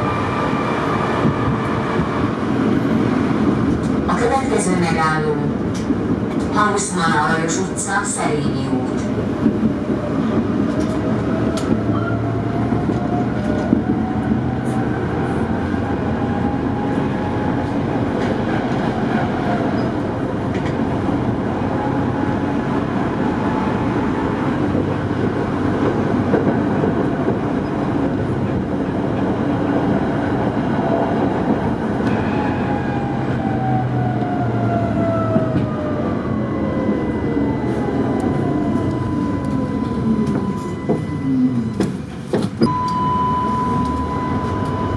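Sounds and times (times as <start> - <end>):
tram wheels rumbling on rail: 0.0 - 44.9.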